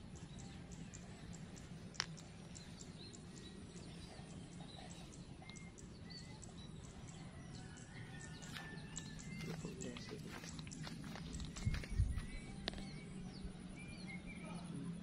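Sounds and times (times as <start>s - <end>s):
small bird chirps: 0.0s - 14.9s
low steady hum: 0.0s - 15.0s.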